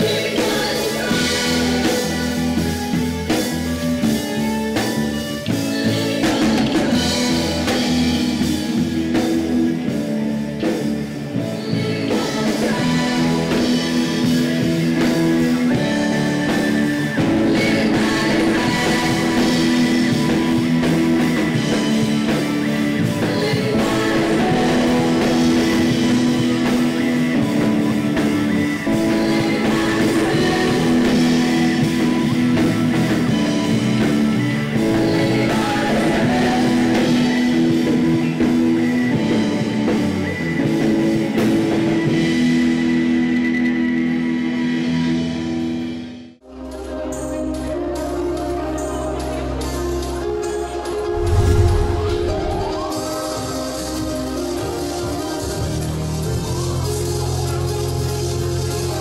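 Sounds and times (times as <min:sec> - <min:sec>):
rock band playing: 0:00.0 - 0:46.1, 0:51.0 - 0:59.0.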